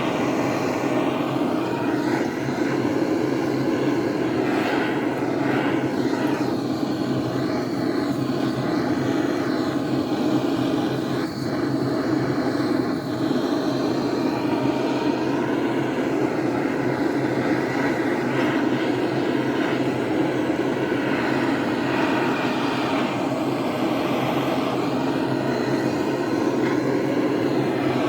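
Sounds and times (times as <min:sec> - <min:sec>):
machine drone: 0:00.0 - 0:28.0.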